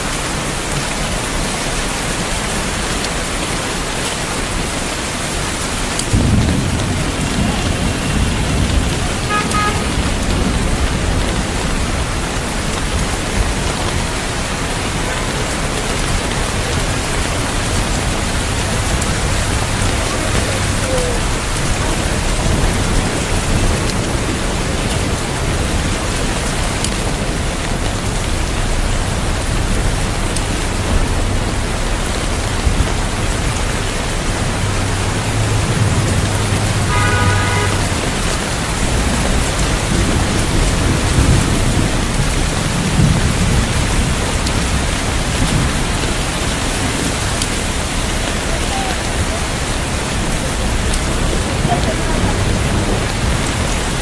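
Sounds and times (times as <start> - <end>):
heavy rain falling: 0.0 - 54.0
thunder rumbling: 0.0 - 54.0.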